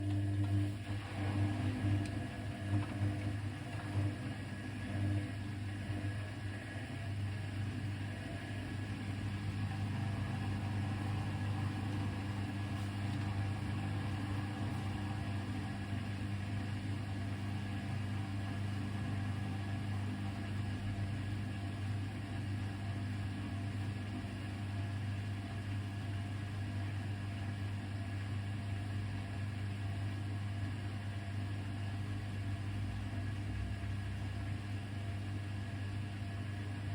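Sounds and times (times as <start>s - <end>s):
washing machine humming: 0.0s - 36.9s.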